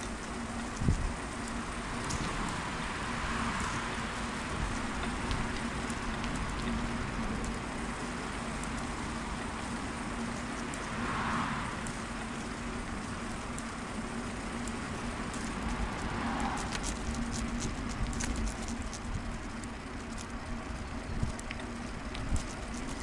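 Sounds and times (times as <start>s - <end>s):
bicycle tyres rolling: 0.0s - 23.0s
small clicks and rattles: 0.0s - 23.0s.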